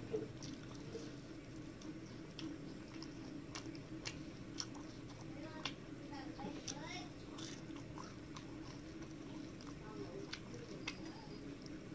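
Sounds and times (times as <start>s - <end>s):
low steady hum: 0.0s - 11.9s
person chewing food: 0.0s - 11.9s.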